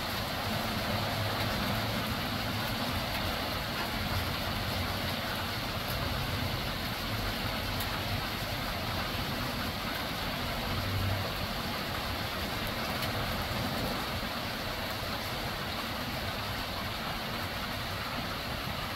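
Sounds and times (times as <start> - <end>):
hail striking ground and roofs: 0.0 - 18.9.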